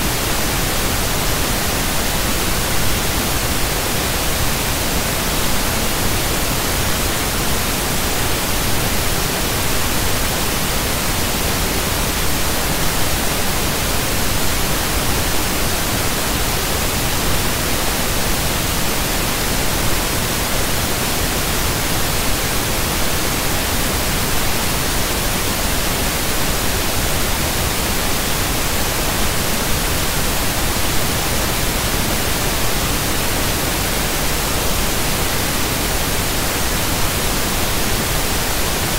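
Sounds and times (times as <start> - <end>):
loud static hiss: 0.0 - 38.9.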